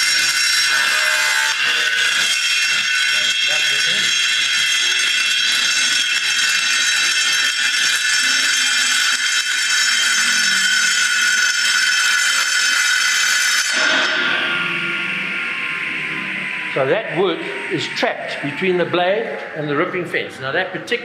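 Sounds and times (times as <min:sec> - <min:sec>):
panel saw blade whining: 0:00.0 - 0:21.0.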